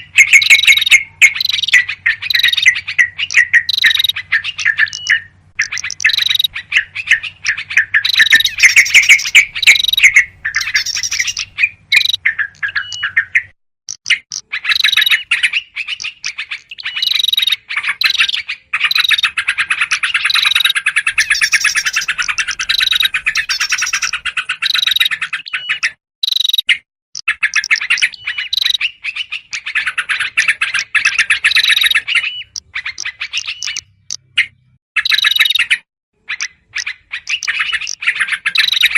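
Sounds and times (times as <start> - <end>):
birds chattering calls: 0.0 - 38.9.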